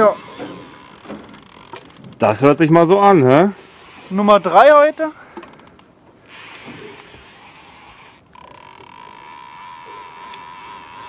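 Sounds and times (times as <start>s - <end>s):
fishing reel drag clicking: 0.0s - 11.0s
fishing reel whirring: 0.0s - 11.0s.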